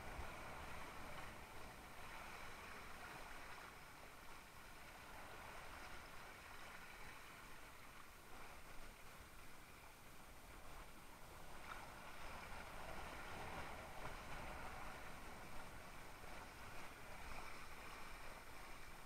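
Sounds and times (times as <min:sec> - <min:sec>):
water rushing along a board hull: 0:00.0 - 0:19.0.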